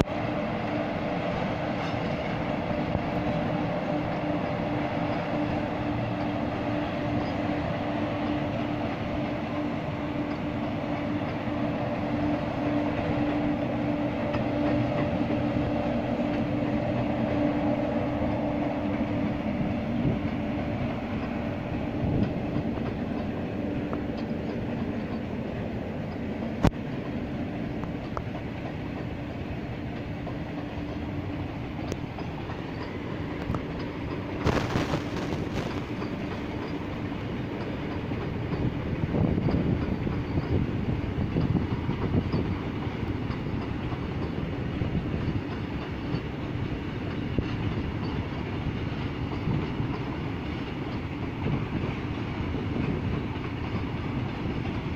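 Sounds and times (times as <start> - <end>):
train wheels clattering on rails: 0.0 - 54.9.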